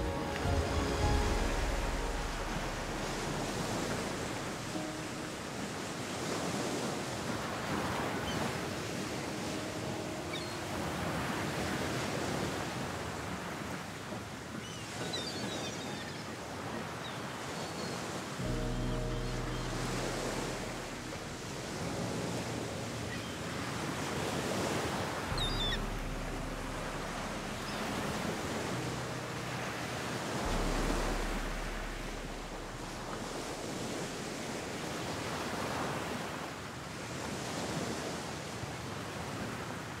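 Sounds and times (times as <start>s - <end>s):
ocean surf breaking on beach: 0.0s - 40.0s.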